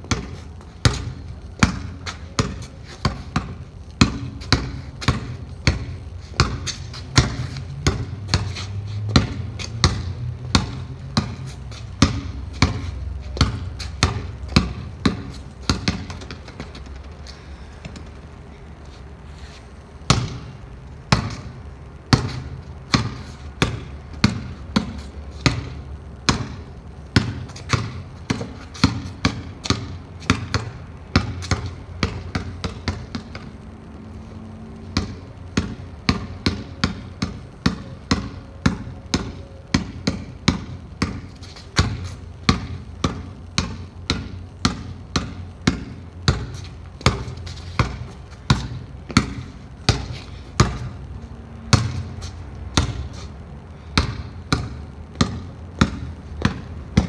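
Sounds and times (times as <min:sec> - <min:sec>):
basketball bouncing on court: 0:00.0 - 0:17.2, 0:20.0 - 0:33.6, 0:34.8 - 0:57.0.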